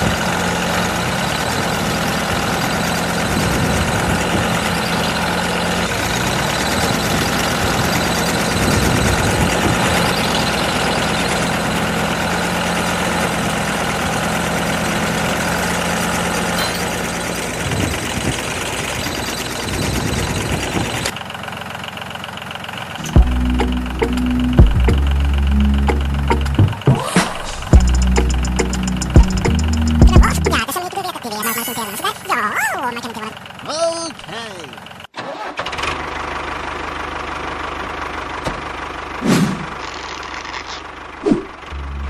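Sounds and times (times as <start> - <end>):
engine running with low hum: 0.0 - 42.0.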